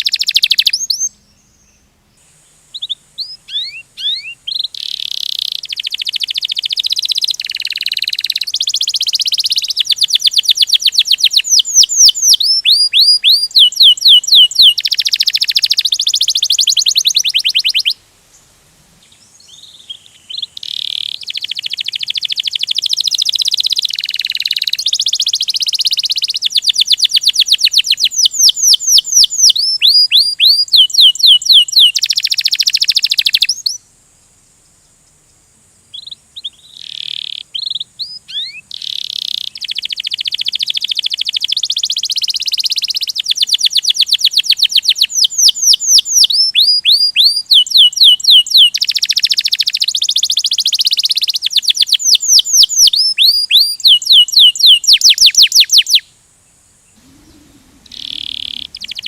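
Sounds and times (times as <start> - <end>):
canary singing: 0.0 - 1.9, 2.7 - 18.0, 19.0 - 33.8, 35.9 - 56.1, 56.9 - 59.0.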